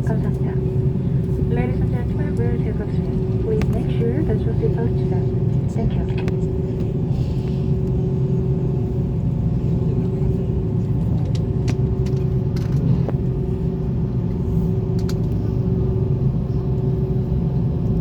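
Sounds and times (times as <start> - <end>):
airliner engines low rumble: 0.0 - 18.0
constant hum: 0.0 - 18.0.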